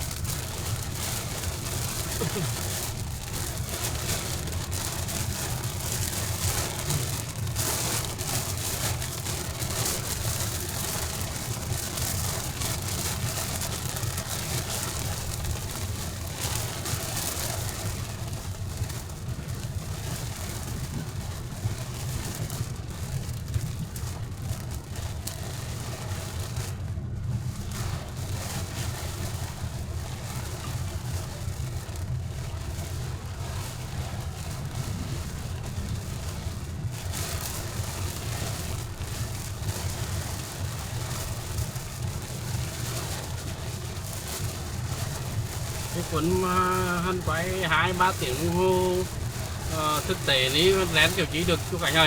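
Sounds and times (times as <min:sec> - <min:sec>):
continuous low rumble: 0:00.0 - 0:52.0
steady rain falling: 0:00.0 - 0:52.0.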